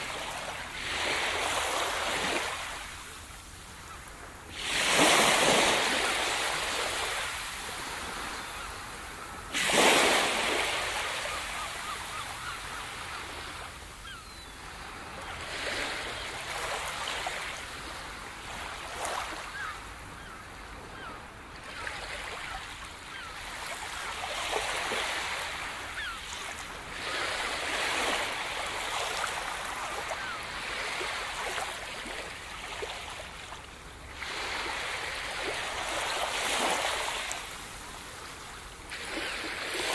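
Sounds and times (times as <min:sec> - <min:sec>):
ocean waves breaking: 0:00.0 - 0:19.7, 0:21.0 - 0:39.9.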